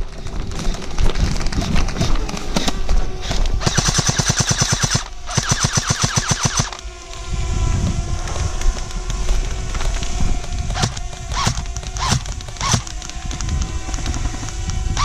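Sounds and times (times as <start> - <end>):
airsoft gun full-auto bursts: 0.5 - 7.3, 8.9 - 15.0.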